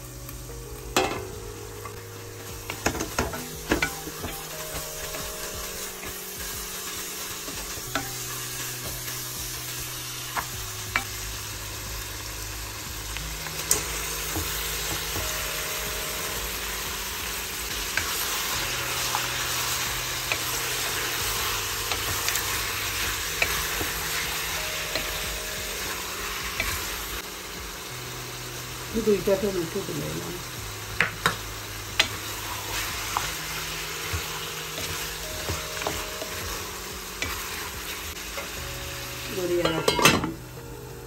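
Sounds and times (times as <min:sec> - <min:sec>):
onions sizzling in oil: 0:00.0 - 0:41.0.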